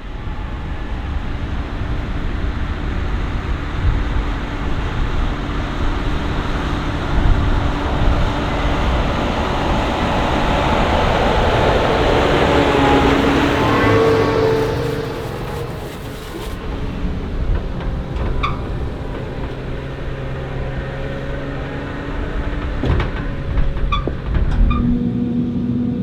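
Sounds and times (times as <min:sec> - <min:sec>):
harvest machinery diesel engine drone: 0:00.0 - 0:26.0.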